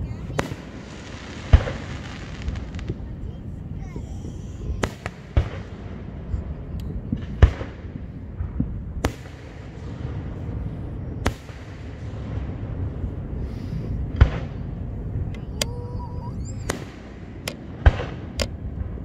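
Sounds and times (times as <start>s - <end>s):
fireworks bangs: 0.0s - 19.0s
low rumble: 0.0s - 19.0s.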